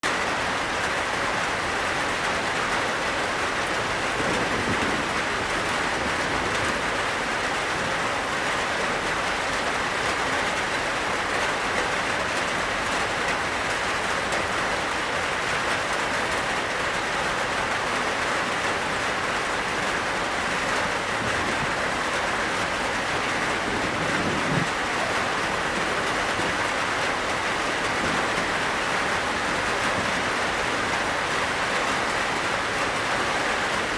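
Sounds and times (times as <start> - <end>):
heavy rain on a tin roof: 0.0 - 33.9.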